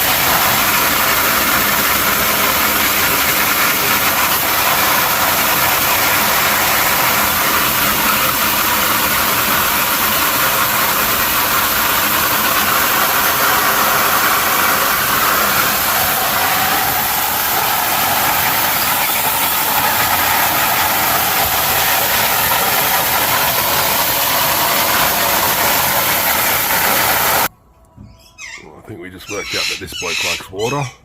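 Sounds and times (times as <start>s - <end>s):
garden hose spraying water: 0.0s - 27.5s.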